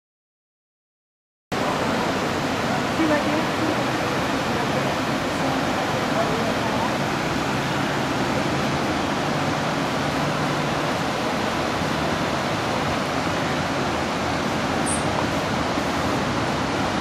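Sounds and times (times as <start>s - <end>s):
river water rushing over rocks: 1.5s - 17.0s.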